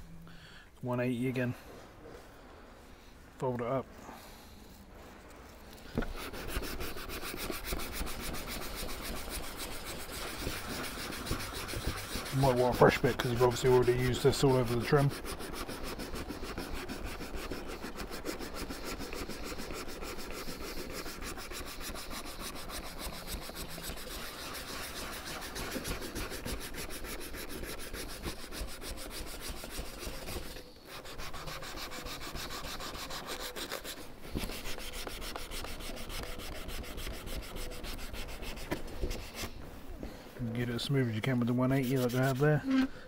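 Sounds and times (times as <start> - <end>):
sandpaper rubbing on plastic: 5.8 - 39.7, 40.6 - 42.9.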